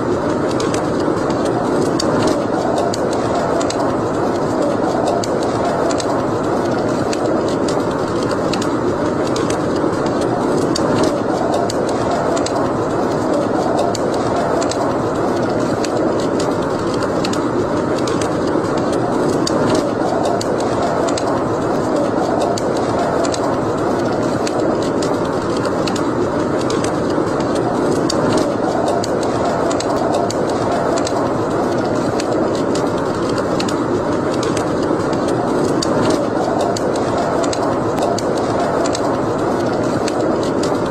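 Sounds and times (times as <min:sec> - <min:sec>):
fire crackles and pops: 0:00.0 - 0:40.9
wood fire hissing: 0:00.0 - 0:40.9.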